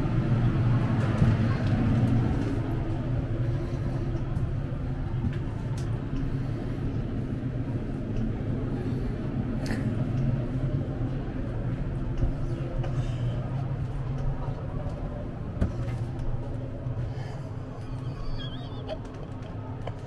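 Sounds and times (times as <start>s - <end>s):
train car rumble: 0.0s - 20.0s.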